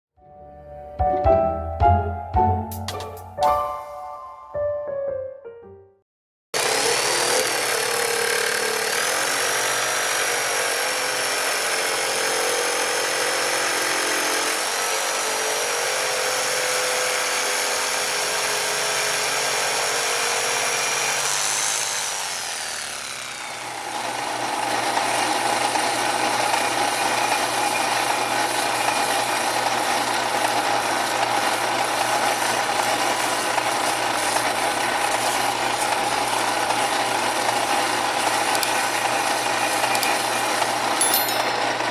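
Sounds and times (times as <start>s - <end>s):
power tool motor whining: 6.6s - 41.9s.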